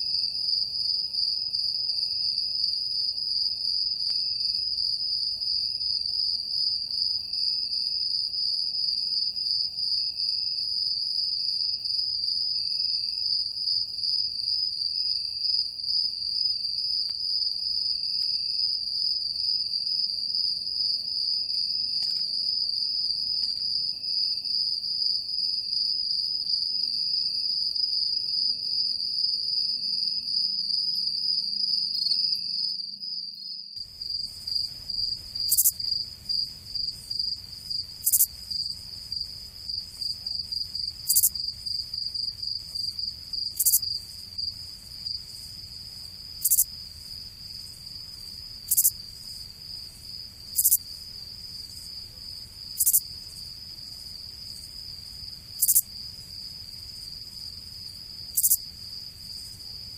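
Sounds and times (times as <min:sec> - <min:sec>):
insects trilling: 0:00.0 - 0:59.9
rapid choppy insect chirping: 0:00.0 - 0:59.9.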